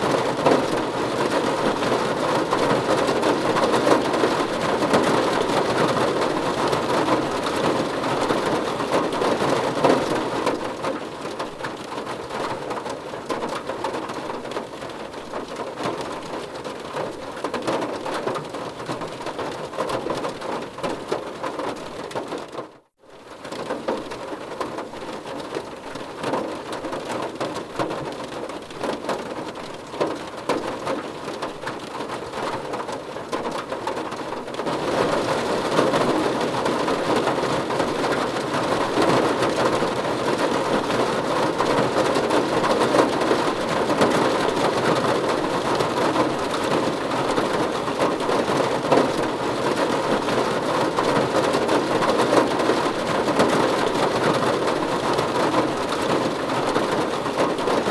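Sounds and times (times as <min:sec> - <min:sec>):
heavy rain falling: 0:00.0 - 0:22.6, 0:23.2 - 0:57.9.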